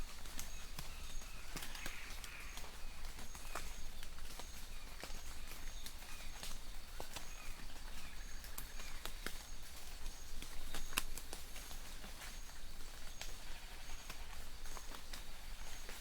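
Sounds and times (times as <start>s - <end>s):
light rain patter: 0.0s - 16.0s.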